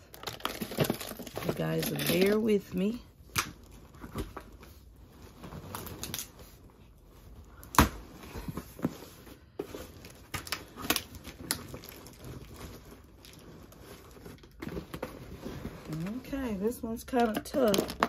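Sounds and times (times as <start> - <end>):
cardboard and tape crinkling: 0.0 - 18.0.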